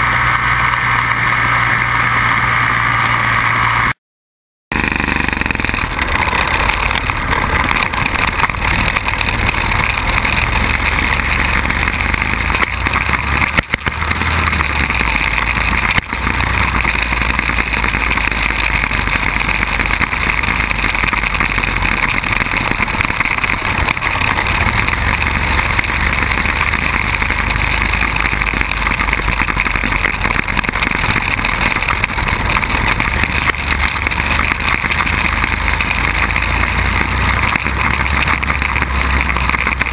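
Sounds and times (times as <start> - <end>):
quad bike engine running: 0.0 - 4.0, 4.7 - 39.9.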